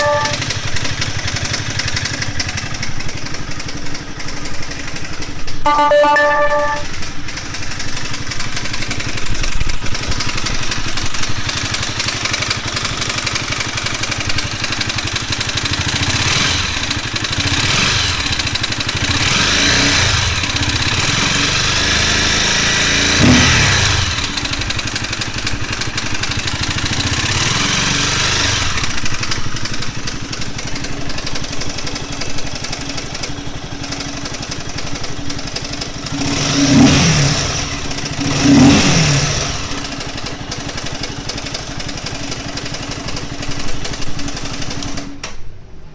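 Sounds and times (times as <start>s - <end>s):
motorcycle engine revving: 0.0s - 45.2s.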